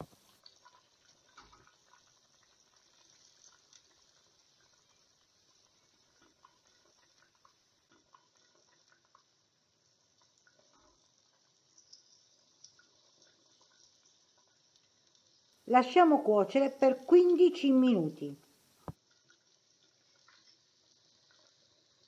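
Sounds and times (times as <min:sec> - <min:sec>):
broth simmering in a pot: 0:00.0 - 0:22.0.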